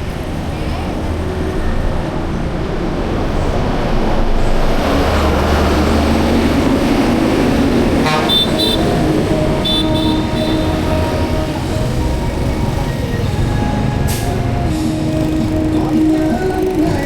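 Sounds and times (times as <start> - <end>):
street traffic: 0.0 - 17.0
vehicle passing close by: 2.2 - 16.0.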